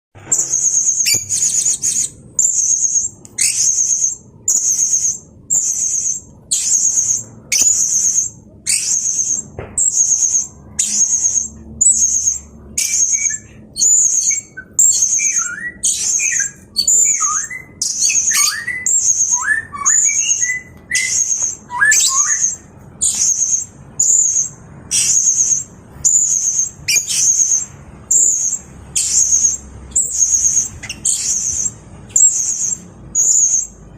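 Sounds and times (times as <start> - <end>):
parrot shrill trilled call: 0.4 - 33.7.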